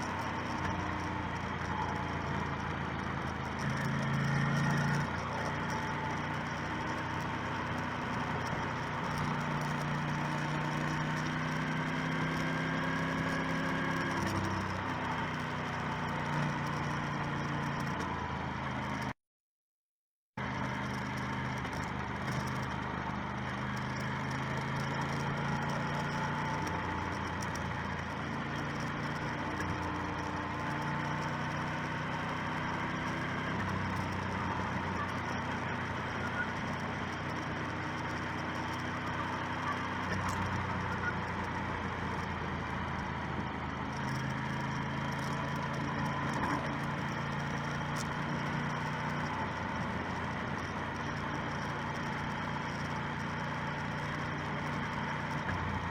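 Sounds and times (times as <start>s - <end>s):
motorcycle engine: 0.0s - 19.1s, 20.4s - 55.9s
wind and road noise: 0.0s - 19.1s, 20.4s - 55.9s.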